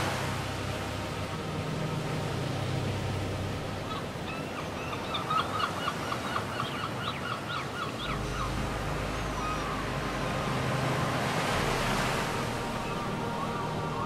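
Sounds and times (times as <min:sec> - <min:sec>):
surf washing: 0:00.0 - 0:14.0.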